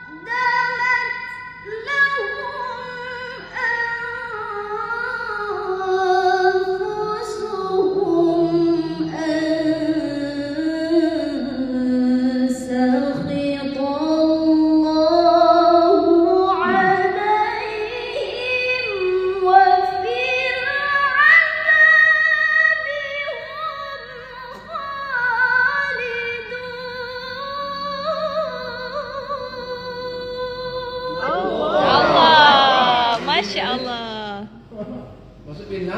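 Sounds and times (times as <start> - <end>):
woman reciting melodically: 0.0 - 34.7.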